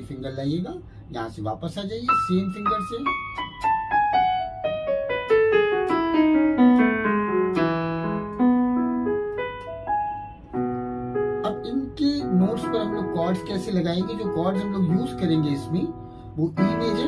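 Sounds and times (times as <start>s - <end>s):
electronic keyboard piano scale: 0.0s - 17.0s.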